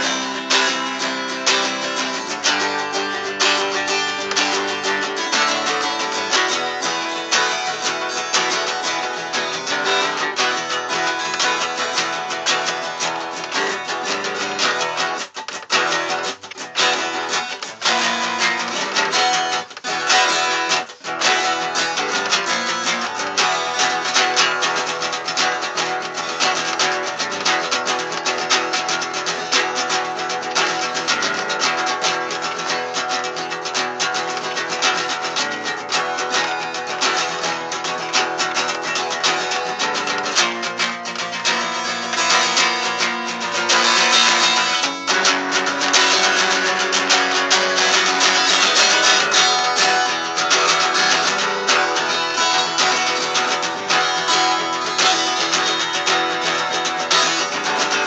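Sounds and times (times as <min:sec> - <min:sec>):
acoustic guitar strummed and plucked: 0:00.0 - 0:58.0.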